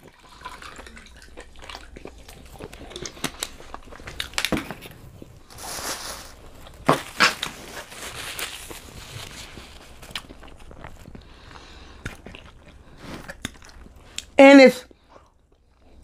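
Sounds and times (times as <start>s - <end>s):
crisp bites and chewing: 0.3s - 14.4s.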